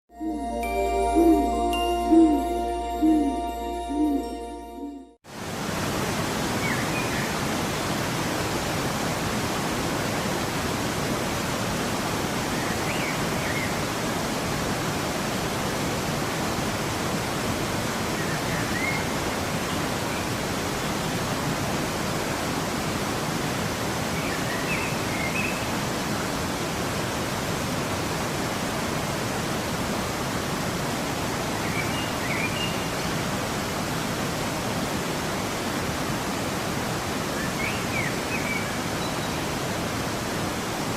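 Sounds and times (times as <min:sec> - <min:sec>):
waterfall rushing: 0:05.3 - 0:40.9.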